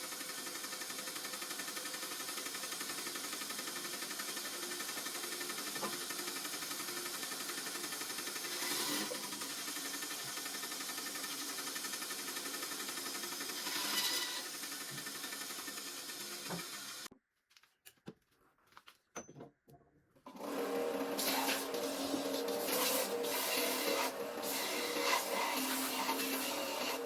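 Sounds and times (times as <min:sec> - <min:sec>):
small power tool running: 0:00.0 - 0:17.1, 0:20.3 - 0:27.0.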